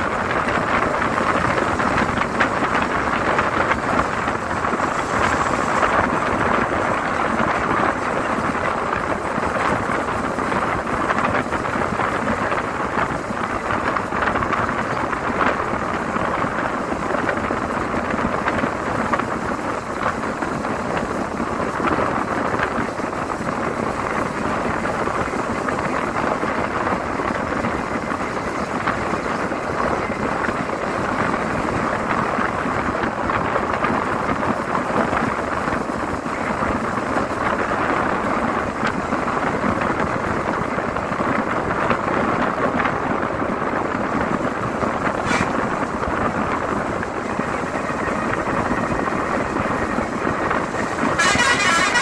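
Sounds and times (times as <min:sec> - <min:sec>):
wind and road noise: 0:00.0 - 0:52.0.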